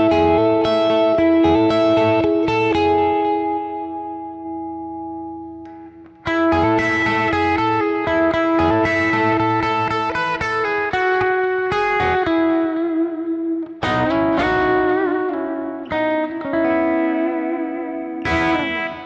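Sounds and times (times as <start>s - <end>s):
clean electric guitar with reverb: 0.0s - 19.0s.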